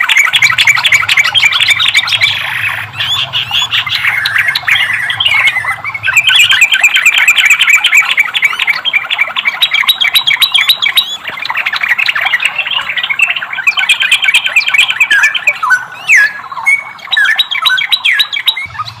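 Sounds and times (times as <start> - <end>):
bird chattering song: 0.0 - 19.0.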